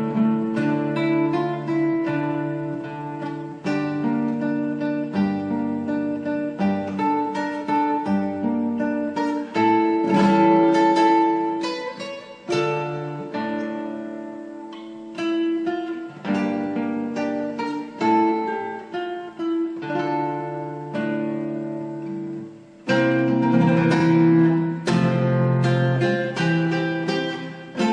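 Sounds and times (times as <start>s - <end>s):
acoustic guitar: 0.0s - 27.9s.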